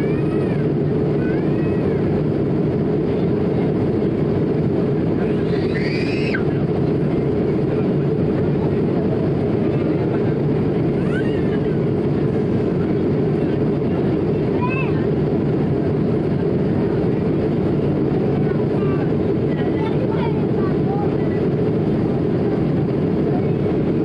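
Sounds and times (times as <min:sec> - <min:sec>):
airplane cabin roar: 0:00.0 - 0:24.0
faint voices: 0:00.0 - 0:24.0.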